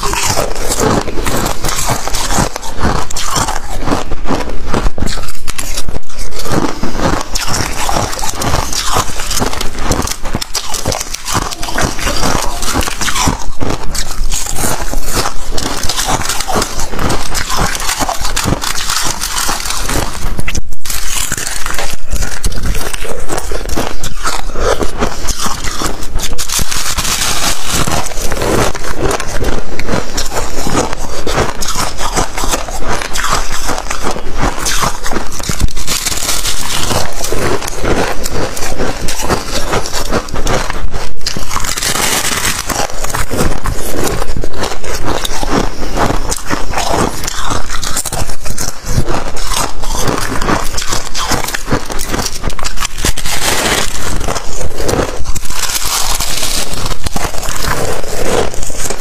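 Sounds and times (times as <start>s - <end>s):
ice crunching in mouth: 0.0s - 59.0s.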